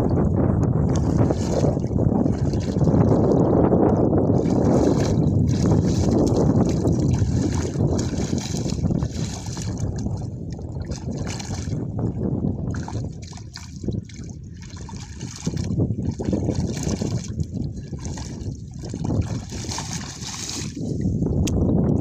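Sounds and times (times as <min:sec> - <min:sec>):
muddy water sloshing: 0:00.0 - 0:21.5.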